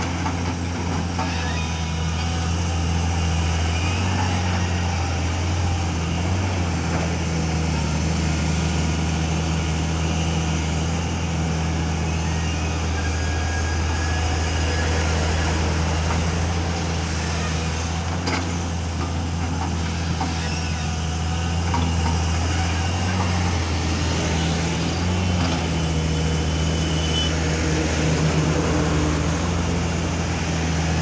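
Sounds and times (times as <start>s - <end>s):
diesel engine humming: 0.0s - 31.0s.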